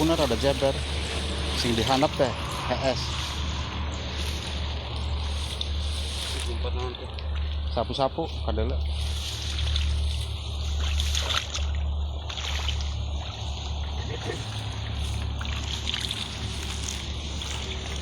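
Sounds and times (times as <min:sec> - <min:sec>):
steady low hum: 0:00.0 - 0:18.0
water splashing and sloshing: 0:00.0 - 0:18.0.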